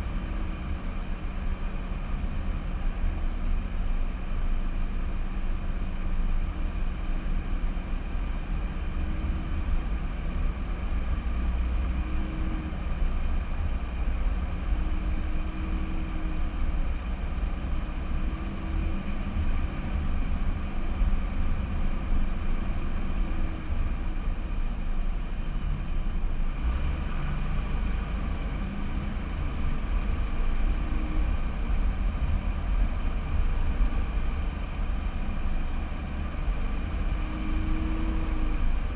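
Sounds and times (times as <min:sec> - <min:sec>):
engine and road noise rumble: 0:00.0 - 0:38.9.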